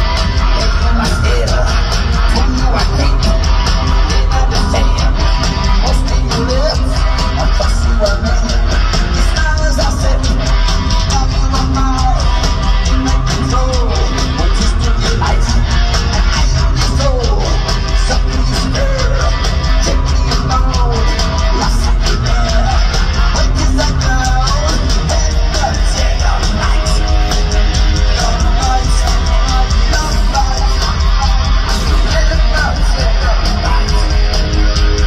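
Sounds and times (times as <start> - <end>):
distorted electric guitars: 0.0 - 35.0
drums: 0.0 - 35.0
heavy metal band playing live: 0.0 - 35.0
lead vocal: 0.0 - 35.0.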